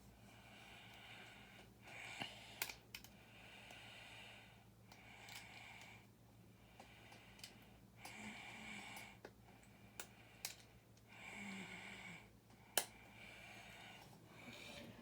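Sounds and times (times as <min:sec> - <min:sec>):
slow breathing close to microphone: 0:00.2 - 0:15.0.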